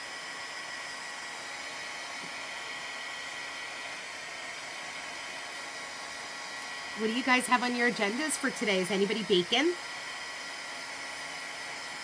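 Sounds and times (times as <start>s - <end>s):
blow dryer running: 0.0s - 12.0s.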